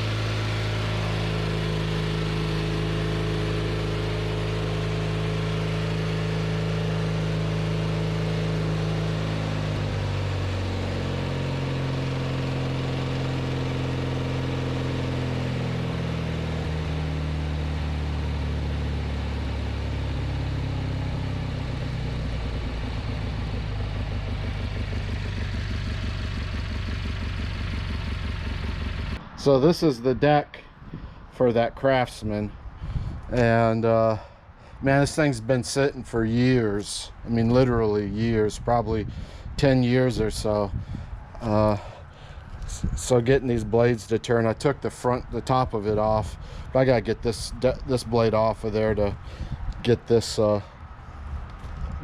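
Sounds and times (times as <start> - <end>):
riding mower engine running: 0.0 - 52.0.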